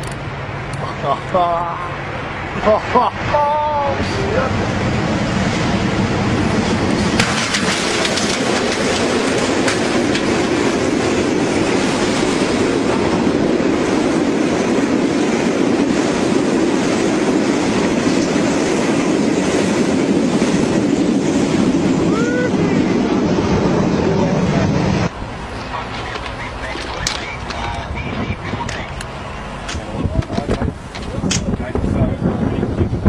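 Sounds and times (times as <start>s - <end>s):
train running along track: 0.0s - 33.0s.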